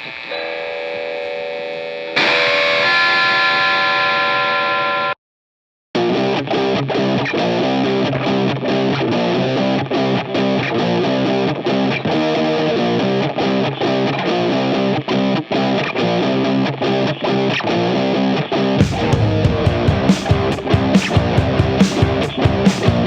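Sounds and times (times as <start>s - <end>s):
rock music with distorted guitar: 2.2s - 5.1s, 6.0s - 23.0s.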